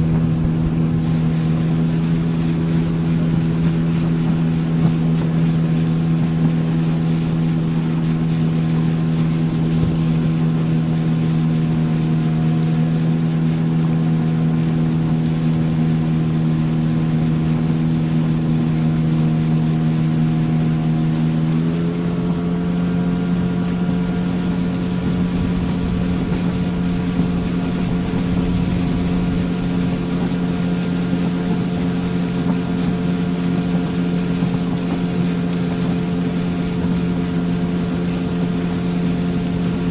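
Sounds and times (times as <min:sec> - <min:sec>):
motorboat engine running: 0:00.0 - 0:39.9
water and wind hiss: 0:00.0 - 0:39.9.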